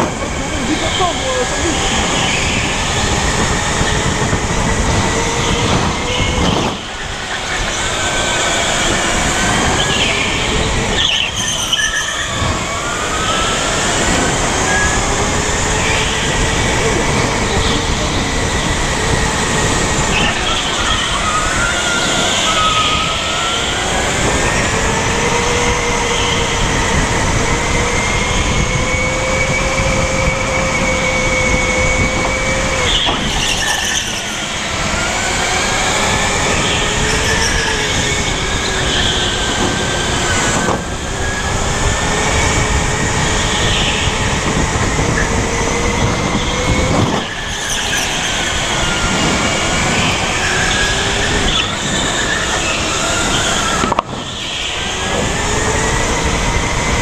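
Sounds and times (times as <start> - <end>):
tyre and wind noise: 0.0 - 57.0.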